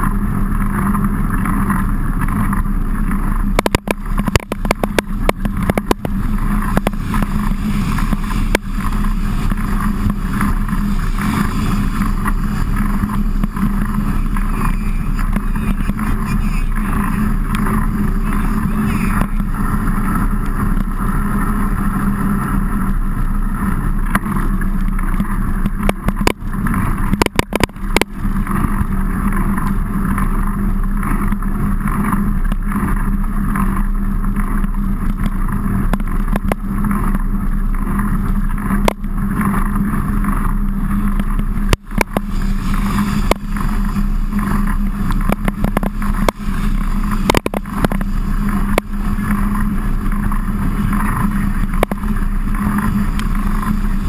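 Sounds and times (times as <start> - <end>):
bike riding rumble: 0.0 - 54.0
wind noise on microphone: 0.0 - 54.0.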